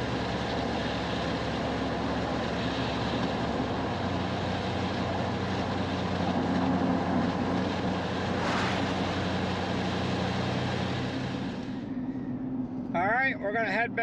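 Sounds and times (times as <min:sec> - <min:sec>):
road and wind noise: 0:00.0 - 0:14.0
truck engine running: 0:00.0 - 0:14.0.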